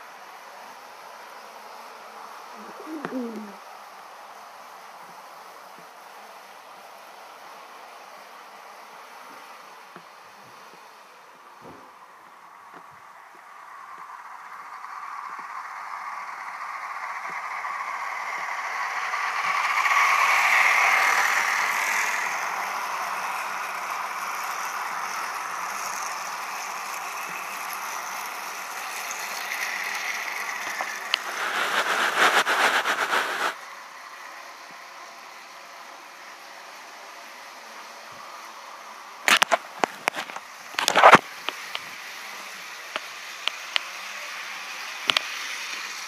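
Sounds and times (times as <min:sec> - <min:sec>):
toy train motor whirring: 0:00.0 - 0:10.9, 0:13.2 - 0:46.0.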